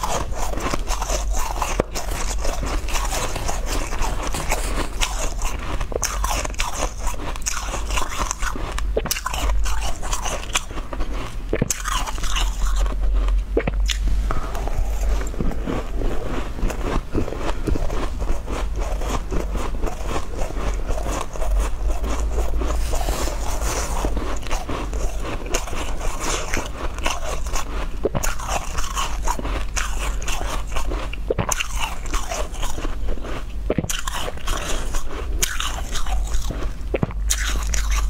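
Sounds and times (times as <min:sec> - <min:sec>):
chewing crunchy shaved ice: 0:00.0 - 0:38.0.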